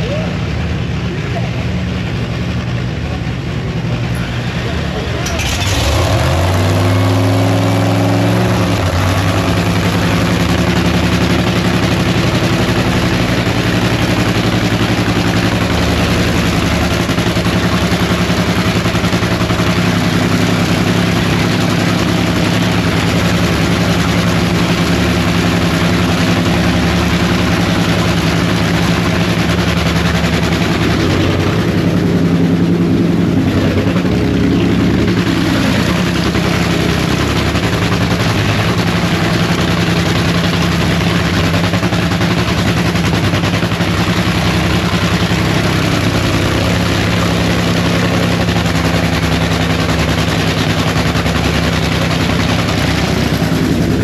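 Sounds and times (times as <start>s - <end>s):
drag racing car engine idling: 0.0s - 54.0s.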